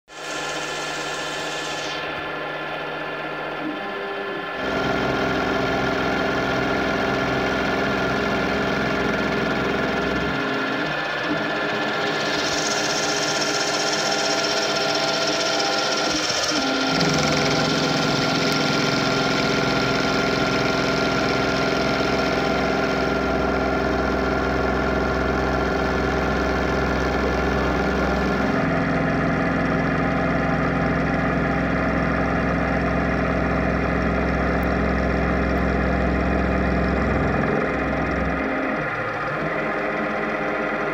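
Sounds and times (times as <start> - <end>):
milling machine hum and whine: 0.1 - 40.9.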